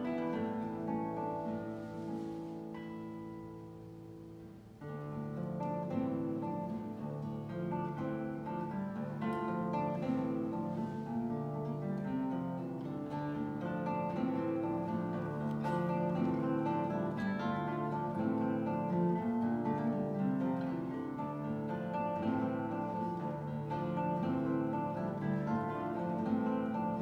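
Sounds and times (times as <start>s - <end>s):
classical guitar duet: 0.0s - 27.0s.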